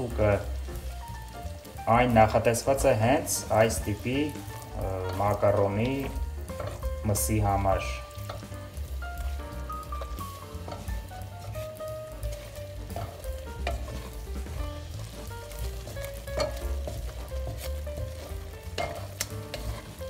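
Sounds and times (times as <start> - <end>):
meat sizzling in oil: 0.0 - 20.0
wooden spoon scraping a pot: 2.8 - 20.0.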